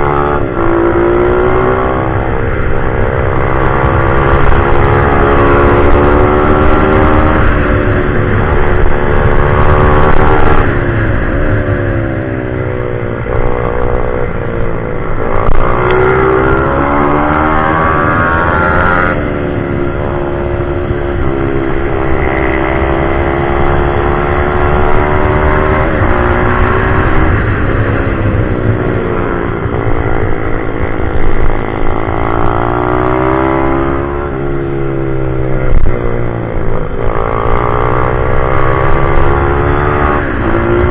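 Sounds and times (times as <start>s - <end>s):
pit bike engine revving: 0.0s - 12.2s, 13.2s - 35.8s, 36.5s - 40.9s.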